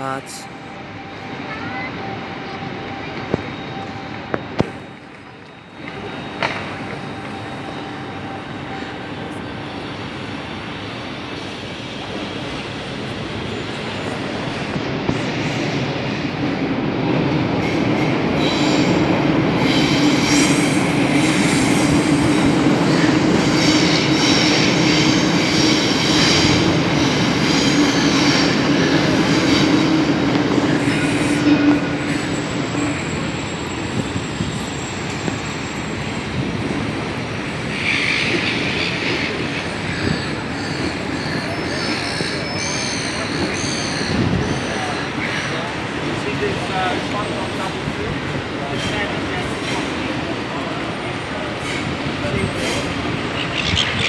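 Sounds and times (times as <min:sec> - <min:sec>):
train wheel squeal: 0:00.4 - 0:16.7, 0:17.6 - 0:54.0.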